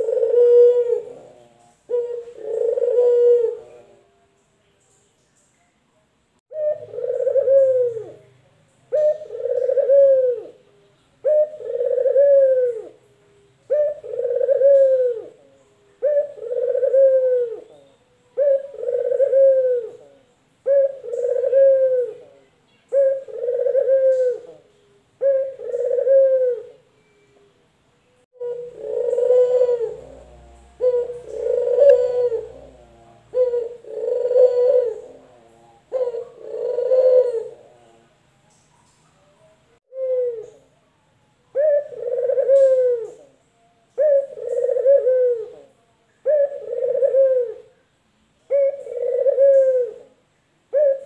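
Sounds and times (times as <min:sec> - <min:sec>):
dove cooing: 0:00.0 - 0:04.2, 0:06.5 - 0:27.2, 0:28.4 - 0:38.1, 0:39.8 - 0:40.8, 0:41.5 - 0:47.8, 0:48.5 - 0:51.0.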